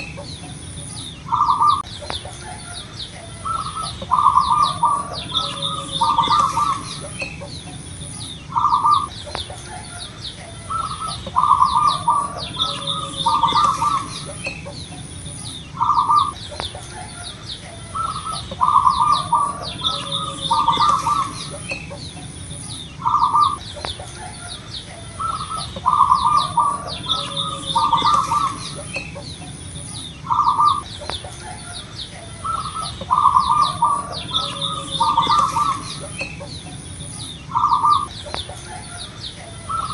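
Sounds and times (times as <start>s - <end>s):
doves cooing in staccato bursts: 0.0s - 39.9s
higher chirping: 0.0s - 39.9s.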